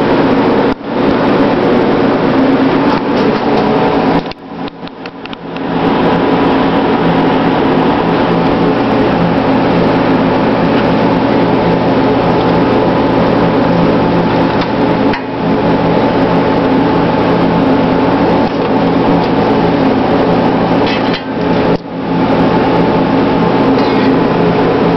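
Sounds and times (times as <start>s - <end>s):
broad rushing noise: 0.0s - 24.9s
loud machine hum: 0.0s - 24.9s.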